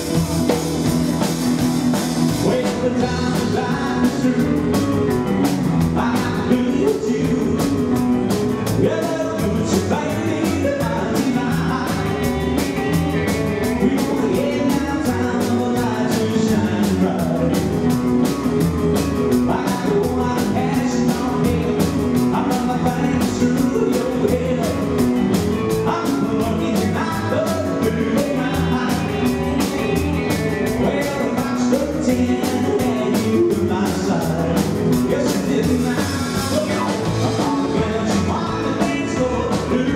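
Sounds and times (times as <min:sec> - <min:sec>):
drum kit fast beat: 0:00.0 - 0:39.9
piano: 0:00.0 - 0:39.9
upright double bass: 0:00.0 - 0:39.9
male lead vocal: 0:02.1 - 0:18.0, 0:19.2 - 0:39.9.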